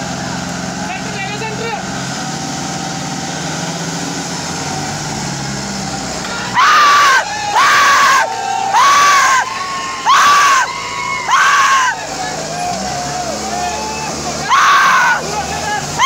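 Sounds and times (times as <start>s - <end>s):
diesel tractor engines running: 0.0s - 16.0s.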